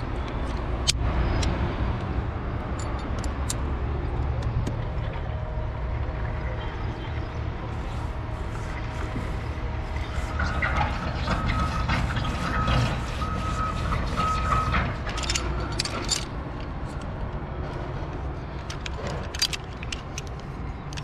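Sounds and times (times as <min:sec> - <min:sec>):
distant traffic rumble: 0:00.0 - 0:21.0.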